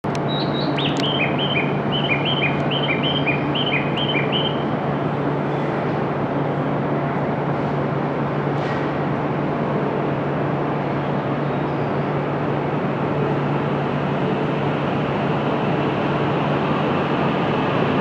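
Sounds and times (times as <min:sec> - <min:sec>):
train standing humming: 0:00.0 - 0:18.0.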